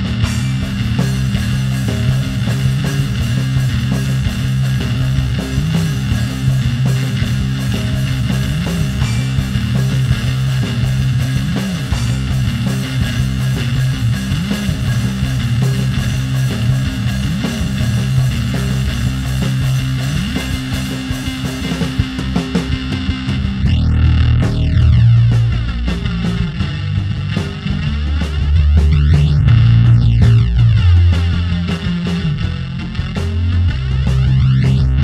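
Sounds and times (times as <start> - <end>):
guitar rock music: 0.0 - 35.0
low bass notes: 0.0 - 35.0.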